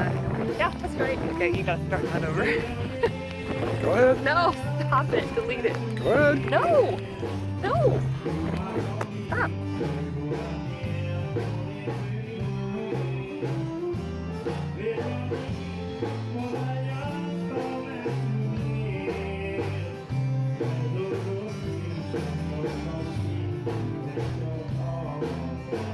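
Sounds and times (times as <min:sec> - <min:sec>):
upbeat country song: 0:00.0 - 0:25.9.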